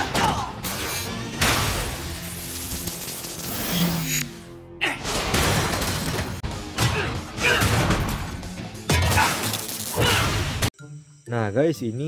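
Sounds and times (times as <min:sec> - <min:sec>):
dramatic music: 0:00.0 - 0:10.7.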